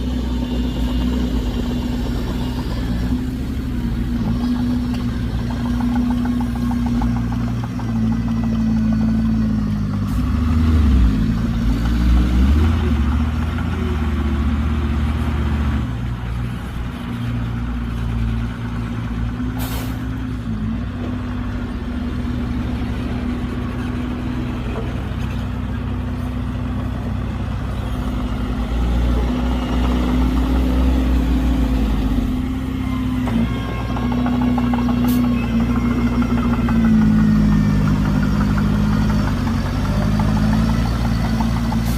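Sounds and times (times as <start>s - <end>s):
heavy diesel engine rumbling: 0.0s - 41.9s.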